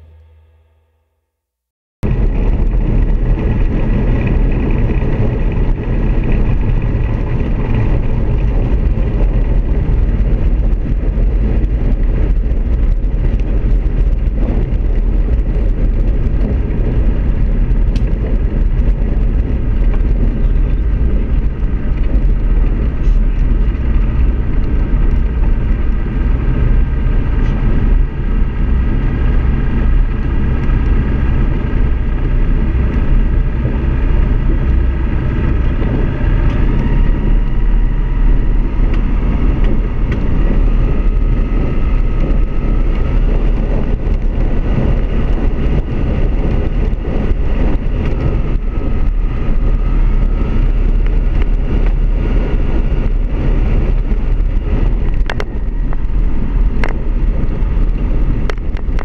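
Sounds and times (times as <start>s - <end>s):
light aircraft engine drone: 2.0s - 59.0s.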